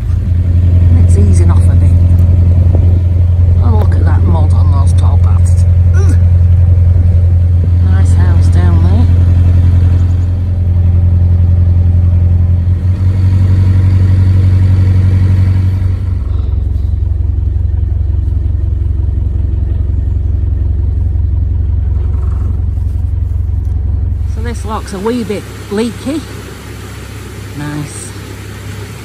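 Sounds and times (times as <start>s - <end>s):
boat diesel engine humming: 0.0s - 29.0s.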